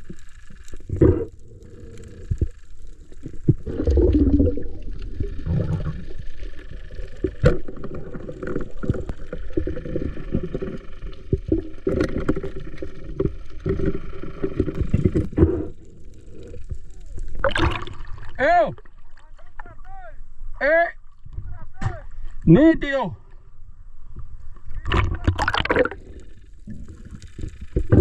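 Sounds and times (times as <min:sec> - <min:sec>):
water sloshing and gurgling: 0:00.0 - 0:19.6, 0:24.1 - 0:28.0.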